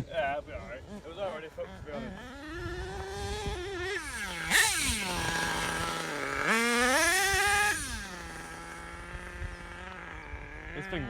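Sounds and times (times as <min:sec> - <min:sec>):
small glow engine idling and revving: 0:00.3 - 0:11.0.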